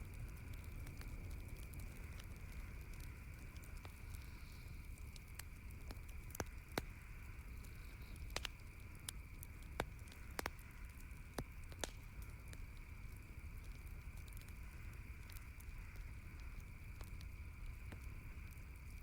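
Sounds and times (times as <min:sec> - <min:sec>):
campfire crackling and popping: 0:00.0 - 0:19.0
low background rumble: 0:00.0 - 0:19.0.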